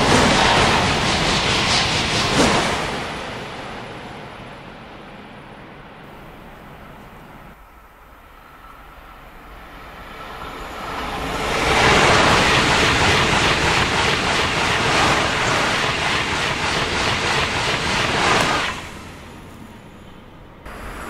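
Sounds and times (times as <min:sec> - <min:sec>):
high-speed train passing: 0:00.0 - 0:21.0
wheels rushing on rail: 0:00.0 - 0:21.0.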